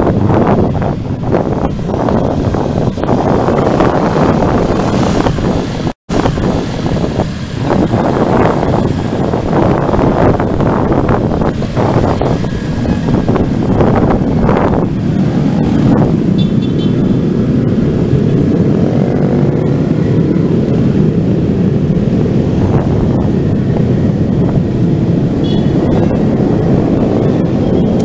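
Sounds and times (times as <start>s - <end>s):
motorcycles: 0.0s - 28.0s
road traffic: 0.0s - 28.0s
wind buffeting microphone: 0.0s - 28.0s.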